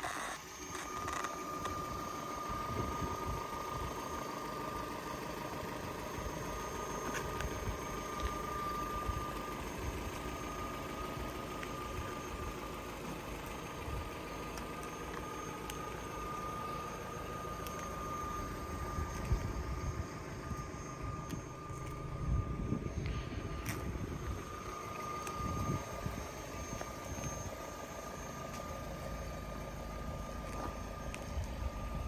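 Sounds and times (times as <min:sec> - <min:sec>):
car engine idling: 0:00.0 - 0:32.0
thin steady whine: 0:00.0 - 0:32.0.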